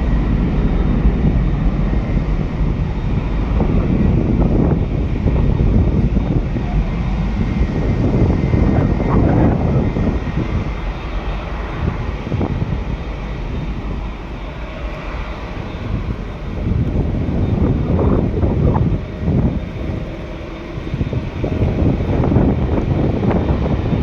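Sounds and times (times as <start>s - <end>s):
faint high engine whine: 0.0s - 24.0s
jet engines rumbling: 0.0s - 24.0s.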